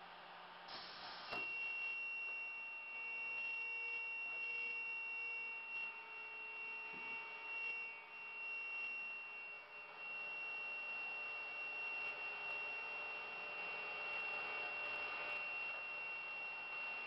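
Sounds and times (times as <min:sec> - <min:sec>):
saw motor whining: 0:01.0 - 0:17.0.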